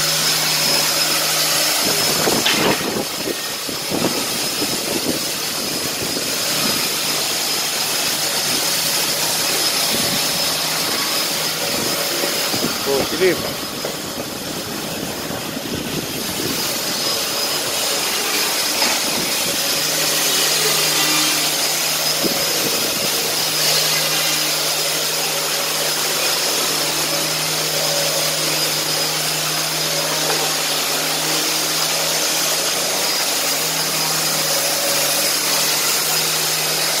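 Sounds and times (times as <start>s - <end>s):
electric sander on wooden floor: 0.0s - 37.0s.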